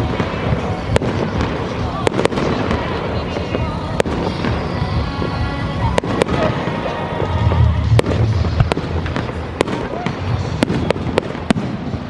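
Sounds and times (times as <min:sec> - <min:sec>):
fireworks rumbling: 0:00.0 - 0:12.0
music: 0:00.0 - 0:12.0
sharp firework cracks: 0:00.0 - 0:12.0.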